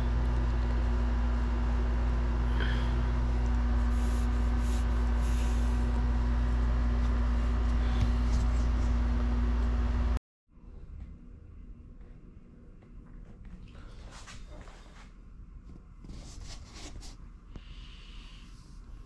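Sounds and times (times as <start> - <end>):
low rumbling hum: 0.0 - 16.4.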